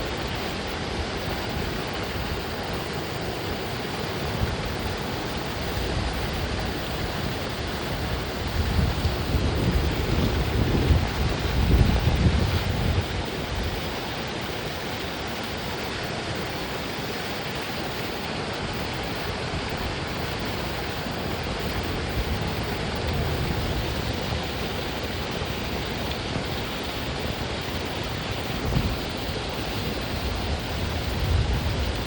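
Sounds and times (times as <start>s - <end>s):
steady rushing noise: 0.0s - 32.0s.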